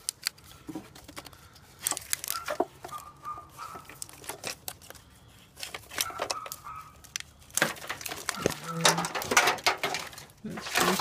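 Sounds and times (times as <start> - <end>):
plastic wiring harness rustling: 0.0 - 11.0.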